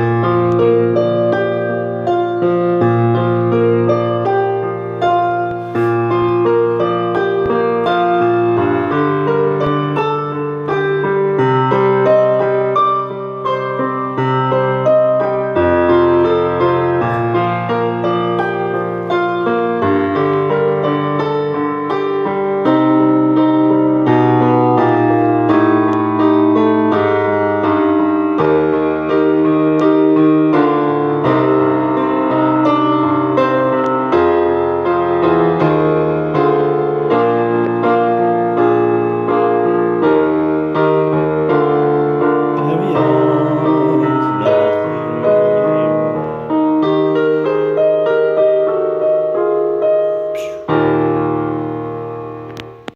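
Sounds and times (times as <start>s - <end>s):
piano chords with bass line: 0.0s - 52.9s.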